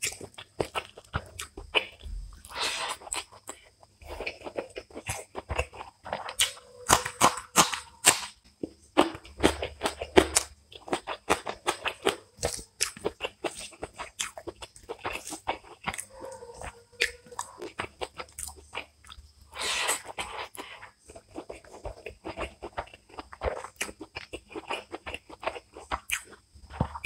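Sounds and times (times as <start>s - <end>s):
chewing with mouth clicks: 0.0s - 27.0s.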